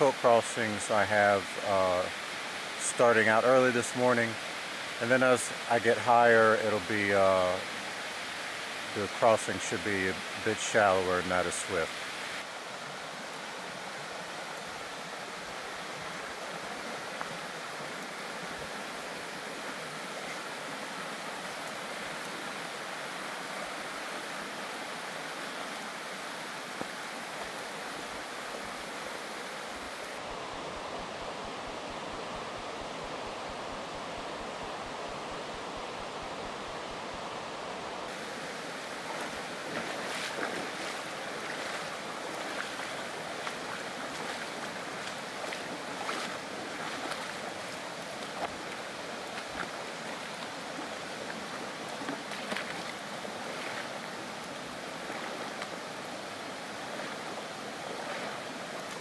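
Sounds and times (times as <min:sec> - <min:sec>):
water splashes and gurgles: 0:00.0 - 0:30.4, 0:38.1 - 0:59.0
creek rushing over stones: 0:00.0 - 0:59.0.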